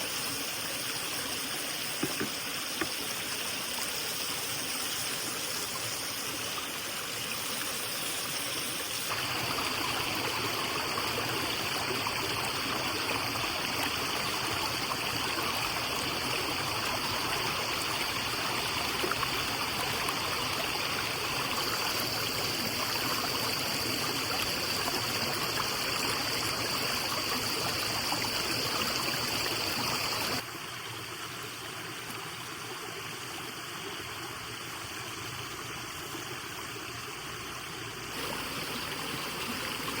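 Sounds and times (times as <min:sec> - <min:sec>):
forest stream rushing: 0:00.0 - 0:40.0.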